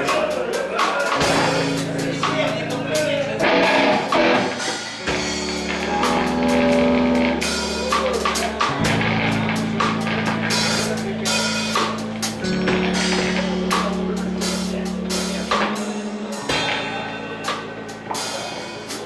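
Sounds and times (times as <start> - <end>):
drum kit beating: 0.0 - 19.0
guitar and bass chords: 0.0 - 19.0.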